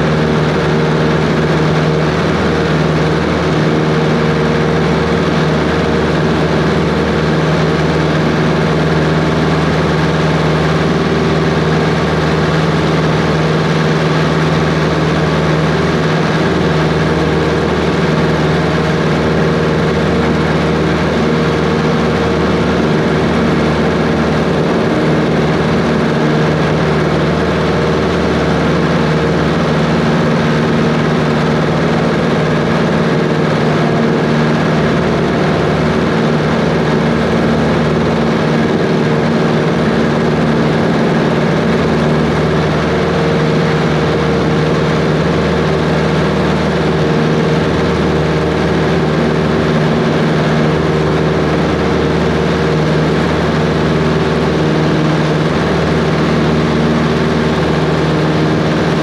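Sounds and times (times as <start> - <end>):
propeller plane engine running: 0.0 - 59.0.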